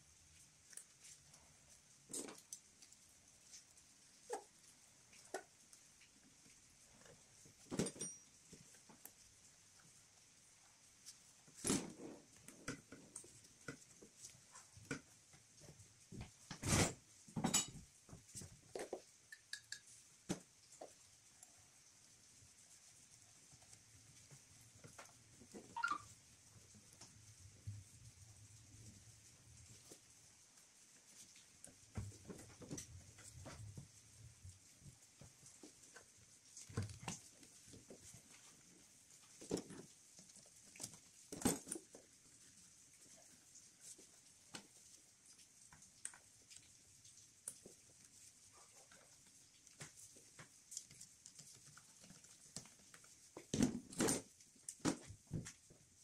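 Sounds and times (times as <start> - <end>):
rustling and scratching of gloves: 0.0 - 19.2, 20.1 - 56.0.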